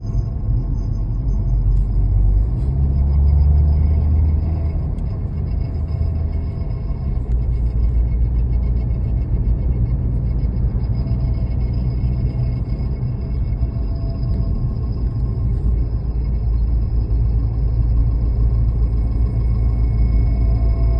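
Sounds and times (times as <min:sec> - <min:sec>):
car rumbling on the move: 0:00.0 - 0:20.9.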